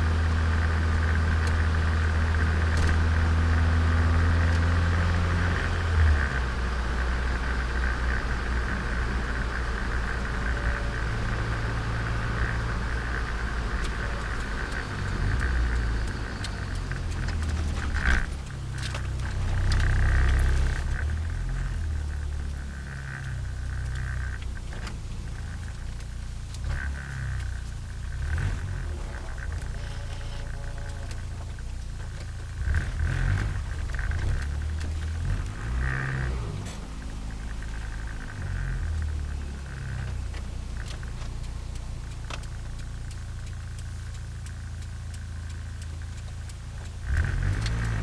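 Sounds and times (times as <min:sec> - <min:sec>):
car engine while driving: 0:00.0 - 0:48.0.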